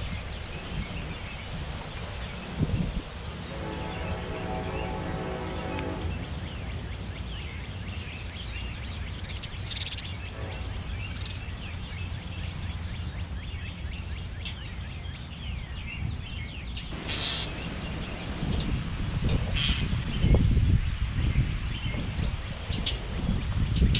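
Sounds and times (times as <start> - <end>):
small birds chirping: 0.0 - 18.8, 19.5 - 23.9
low outdoor rumble: 0.0 - 23.9.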